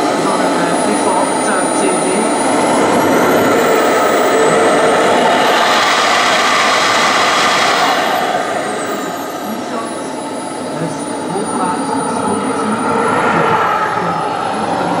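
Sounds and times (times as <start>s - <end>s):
model jet turbine roaring: 0.0s - 15.0s.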